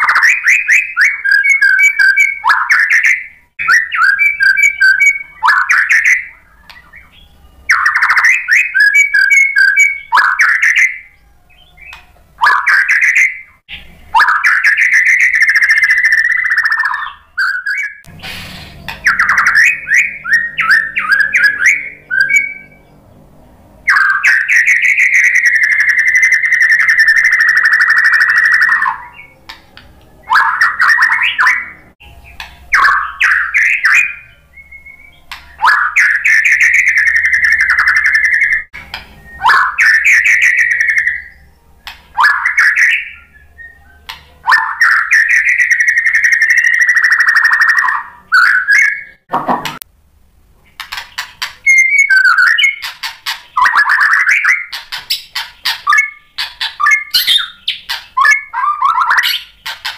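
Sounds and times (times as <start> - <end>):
bird singing whistled notes: 0.0 - 23.0, 23.9 - 49.2, 51.6 - 52.9, 53.5 - 59.7.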